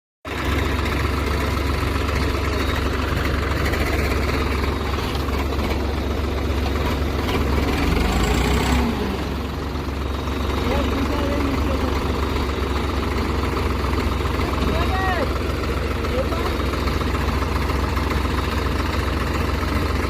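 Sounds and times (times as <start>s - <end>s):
tractor engine running: 0.2s - 20.0s.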